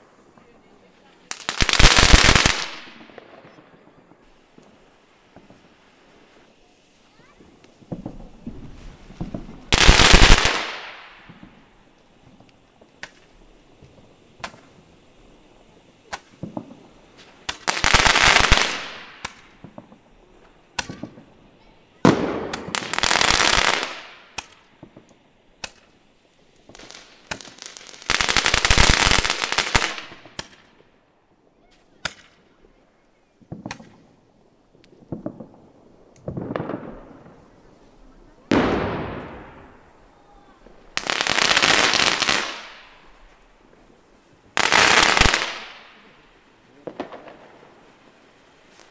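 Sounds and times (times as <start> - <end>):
crackling firework bursts: 0.0 - 48.9
short firework bangs: 0.3 - 14.8, 15.7 - 30.9, 33.4 - 34.2, 34.9 - 48.9.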